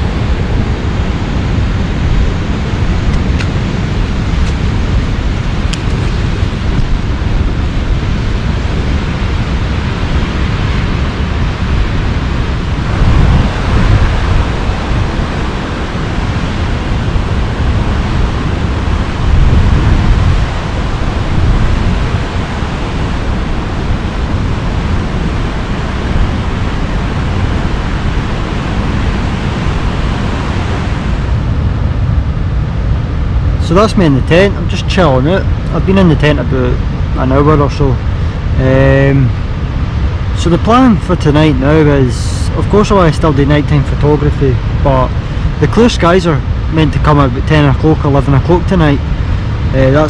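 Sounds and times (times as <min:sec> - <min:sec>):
waterfall roaring: 0:00.0 - 0:50.0.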